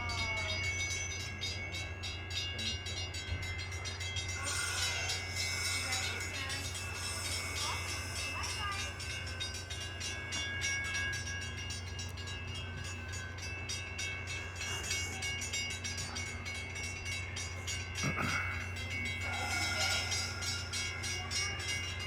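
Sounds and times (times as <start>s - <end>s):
diesel train engine hum: 0.0s - 22.0s.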